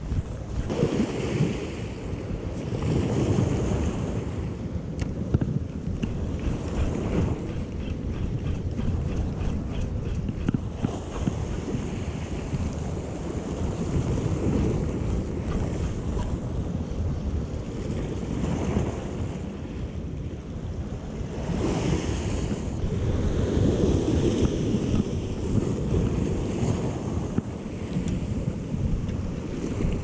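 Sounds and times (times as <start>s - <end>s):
sea surf washing against rocks: 0.0s - 19.8s, 20.8s - 30.0s
wind buffeting microphone: 0.0s - 30.0s.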